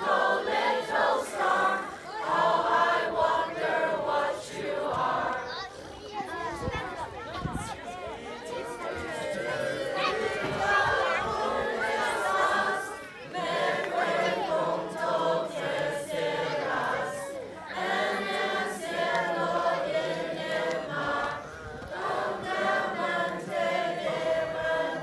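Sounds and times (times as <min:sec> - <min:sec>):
group singing in chorus: 0:00.0 - 0:05.6, 0:08.4 - 0:25.0.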